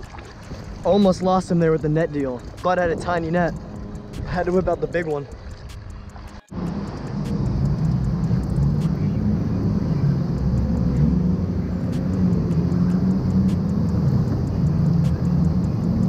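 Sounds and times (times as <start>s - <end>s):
jet ski engines droning: 0.0s - 16.0s.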